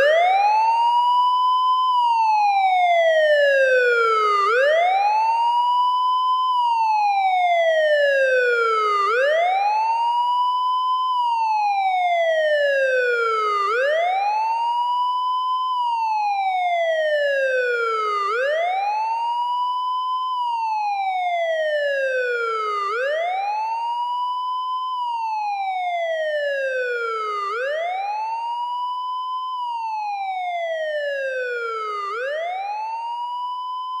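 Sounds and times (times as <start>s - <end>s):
police siren wailing: 0.0s - 34.0s.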